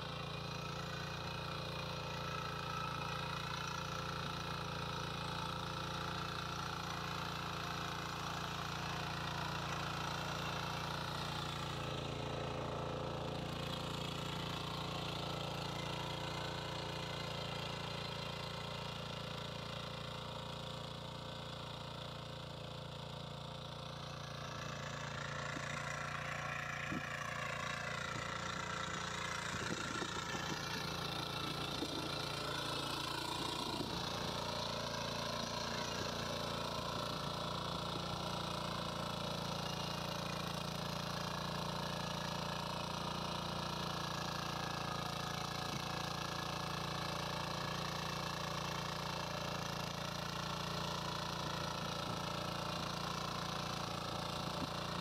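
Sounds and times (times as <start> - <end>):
tines tilling soil: 0.0 - 55.0
weeder engine running: 0.0 - 55.0.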